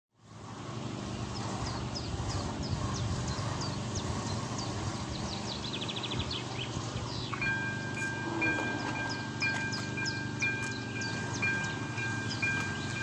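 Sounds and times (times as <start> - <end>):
low outdoor rumble: 0.2 - 13.0
birds chirping and trilling: 0.8 - 13.0.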